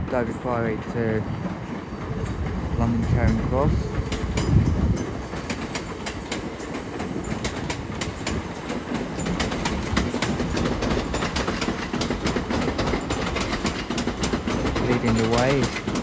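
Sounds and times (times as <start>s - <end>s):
train low rumble: 0.0s - 16.0s
train wheels clicking over joints: 0.0s - 16.0s.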